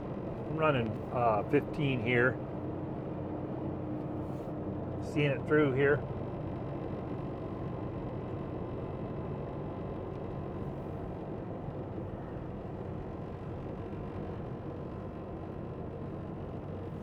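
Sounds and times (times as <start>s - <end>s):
diesel truck engine drone: 0.0s - 17.0s
road noise: 0.0s - 17.0s.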